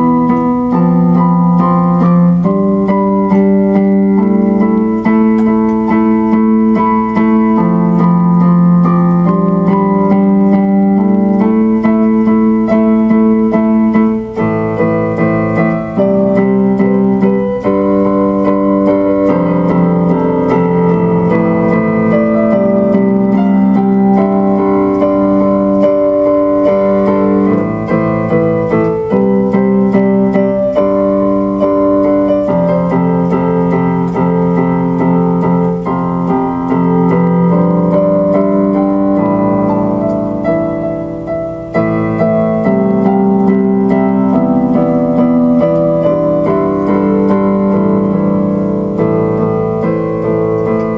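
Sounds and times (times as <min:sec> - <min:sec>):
electronic keyboard chords: 0:00.0 - 0:50.9.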